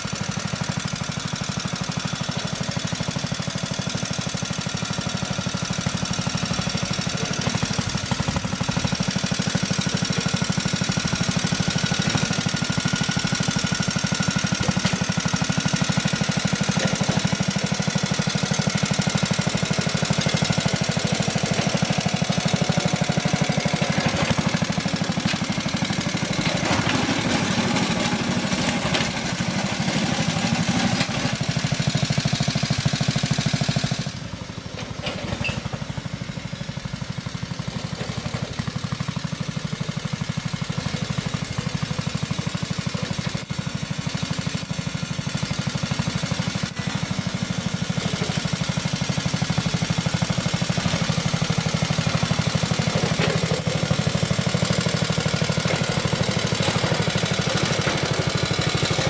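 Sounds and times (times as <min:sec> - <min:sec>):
petrol engine running steadily: 0:00.0 - 0:59.0.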